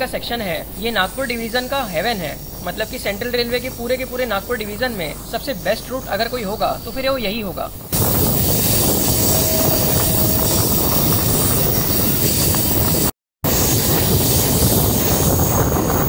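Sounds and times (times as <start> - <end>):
train wheel and rail rush: 0.0 - 16.0.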